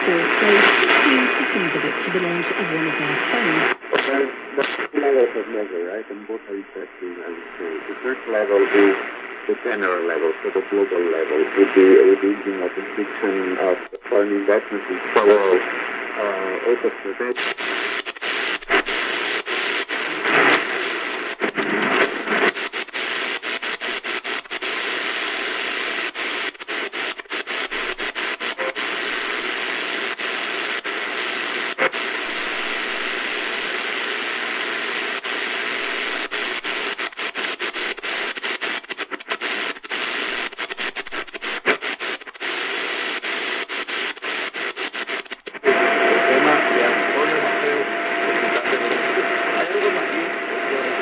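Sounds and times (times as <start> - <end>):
radio static and hiss: 0.0 - 51.0.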